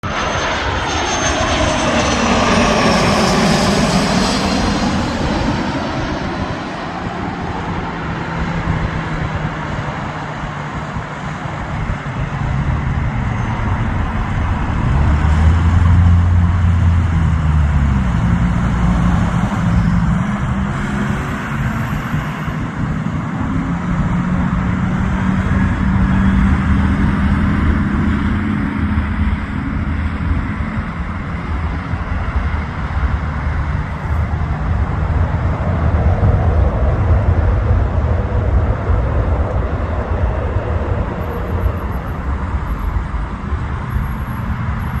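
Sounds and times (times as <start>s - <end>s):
engine roar: 0.0s - 45.0s.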